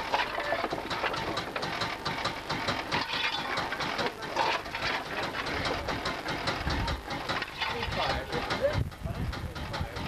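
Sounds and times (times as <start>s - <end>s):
metallic clanks and clicks: 0.0s - 10.0s.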